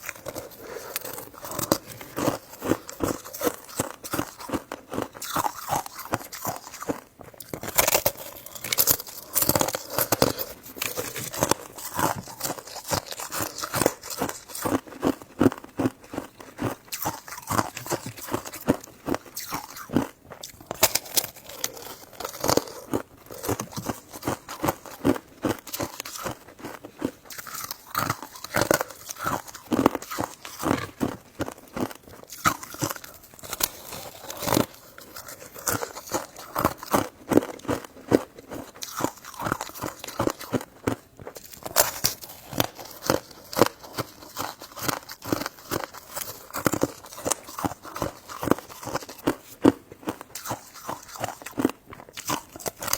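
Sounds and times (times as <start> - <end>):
person biting and chewing: 0.0 - 52.9.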